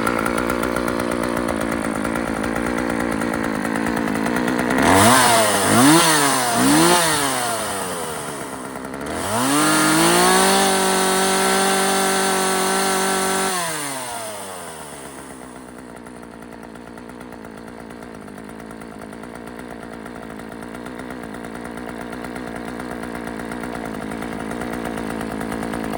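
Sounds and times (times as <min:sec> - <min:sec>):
chainsaw engine revving: 0:00.0 - 0:25.9.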